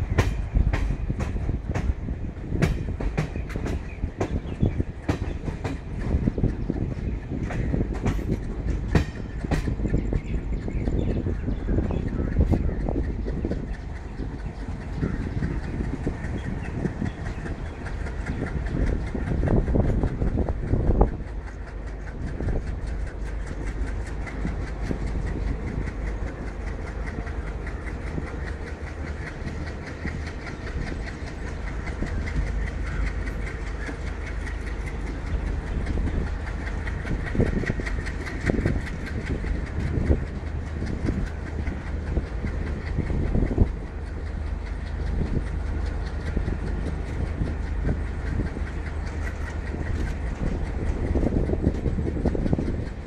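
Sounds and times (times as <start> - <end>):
train rumble: 0.0 - 53.0
wheels clacking over rails: 0.0 - 53.0.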